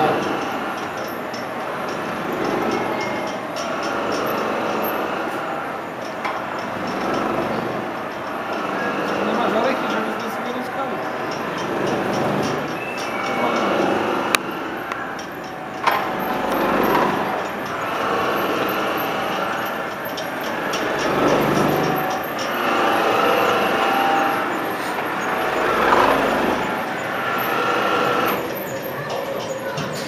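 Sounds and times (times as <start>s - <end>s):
gear wheel mechanical rumble and whir: 0.0s - 30.0s.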